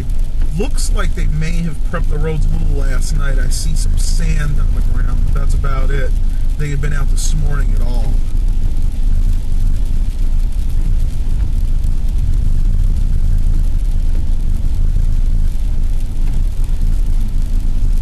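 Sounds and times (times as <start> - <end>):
vehicle driving on slushy road: 0.0 - 18.0.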